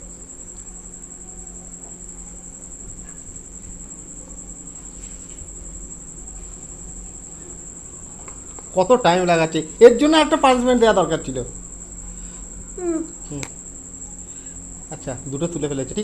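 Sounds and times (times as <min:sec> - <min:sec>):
cricket trilling: 0:00.0 - 0:16.0
low steady hum: 0:00.0 - 0:16.0.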